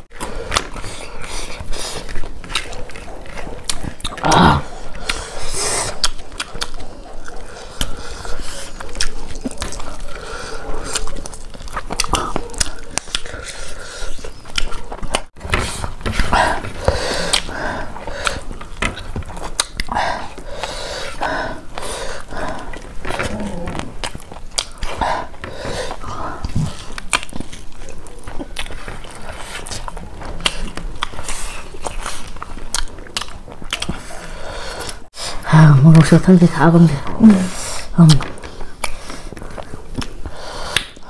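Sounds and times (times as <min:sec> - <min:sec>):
people chewing food: 0:00.0 - 0:41.0
wet mouth clicks: 0:00.1 - 0:15.3, 0:16.2 - 0:35.1, 0:37.3 - 0:41.0.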